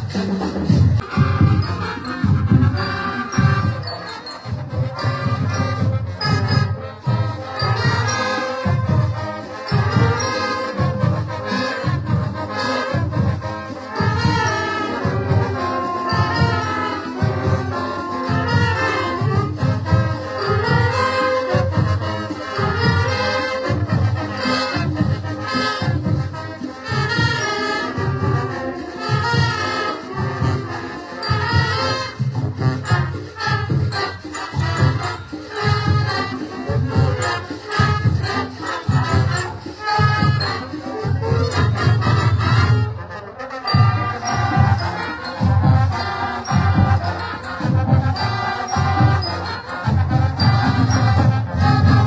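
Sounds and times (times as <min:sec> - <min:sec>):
heavy drum beat: 0:00.0 - 0:03.9, 0:04.6 - 0:43.0, 0:43.7 - 0:52.0
brass instruments: 0:00.0 - 0:52.0
live band music: 0:00.0 - 0:52.0.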